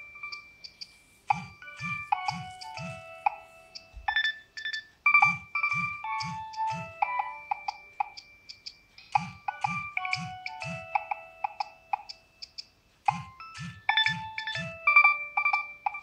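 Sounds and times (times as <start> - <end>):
polyphonic phone ringtone: 0.0 - 12.5, 13.1 - 16.0.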